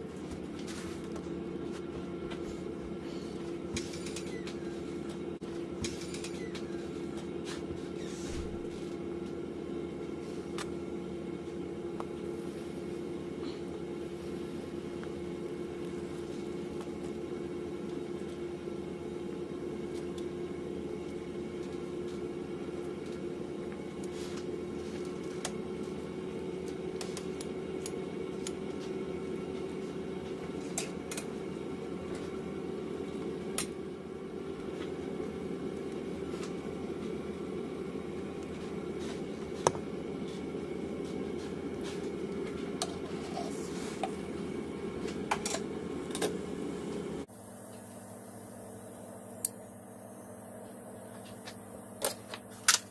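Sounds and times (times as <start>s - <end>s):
steady mechanical hum: 0.0s - 52.9s.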